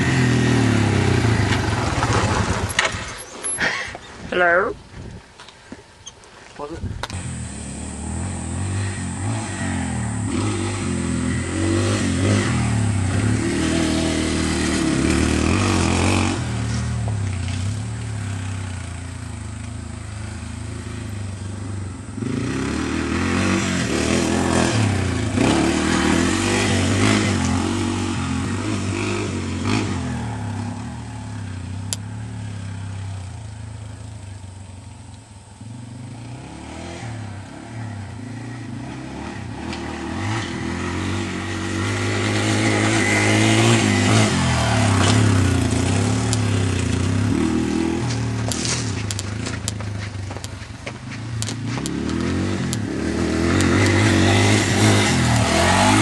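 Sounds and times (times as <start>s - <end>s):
dirt bike engine revving: 0.0s - 4.7s, 7.1s - 34.8s, 35.5s - 56.0s.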